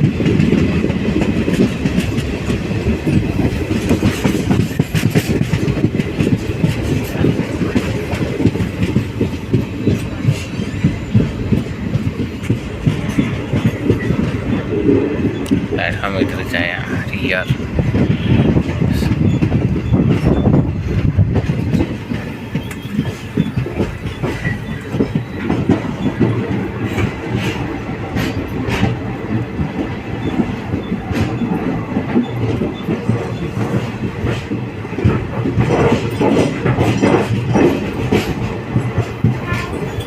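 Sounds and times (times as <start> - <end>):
clacking over rail joints: 0.0 - 40.0
train wheels rumbling: 0.0 - 40.0.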